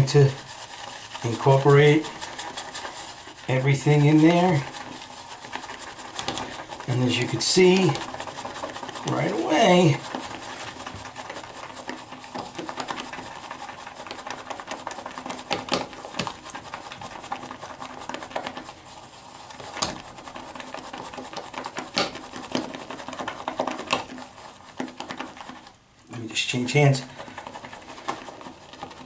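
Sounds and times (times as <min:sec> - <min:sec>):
shaving brush whipping lather: 0:00.0 - 0:29.0.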